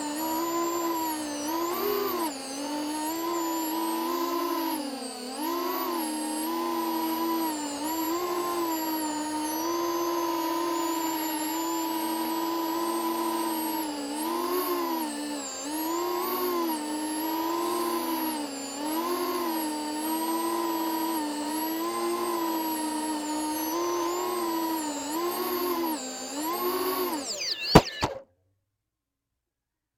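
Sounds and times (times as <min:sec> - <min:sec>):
drone motors whining: 0:00.0 - 0:28.2.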